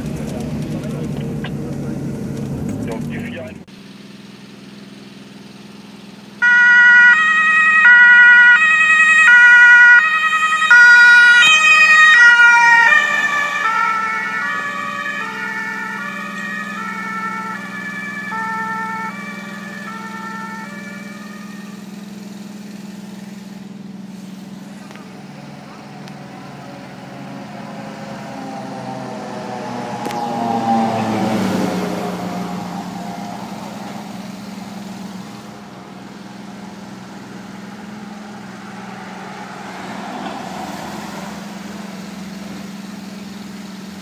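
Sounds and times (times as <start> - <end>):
two-tone emergency siren: 6.4 - 23.2, 25.0 - 44.0.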